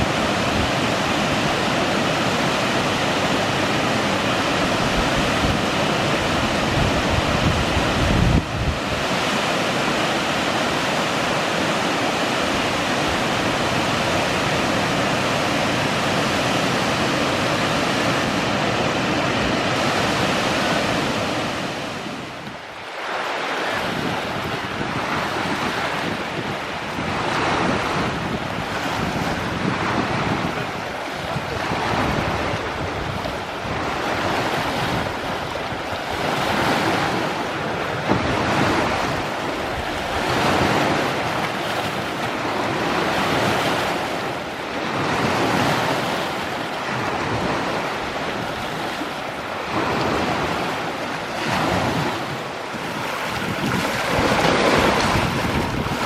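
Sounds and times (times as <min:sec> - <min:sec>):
waves washing onto beach: 0:00.0 - 0:56.0
wind buffeting microphone: 0:00.0 - 0:56.0.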